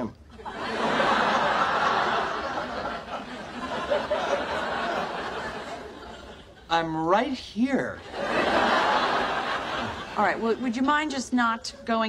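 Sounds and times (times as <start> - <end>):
studio audience laughing: 0.4 - 6.7, 8.0 - 12.0.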